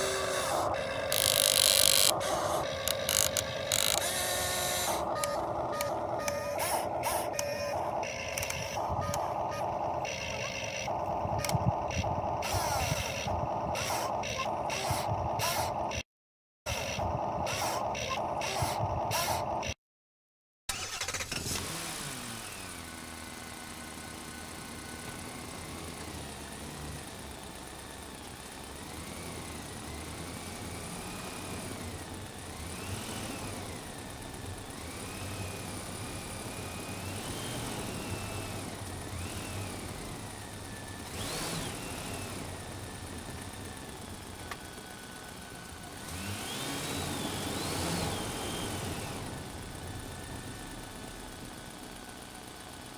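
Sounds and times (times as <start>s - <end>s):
electric motors whining: 0.0s - 16.0s, 16.7s - 19.8s, 20.7s - 52.9s.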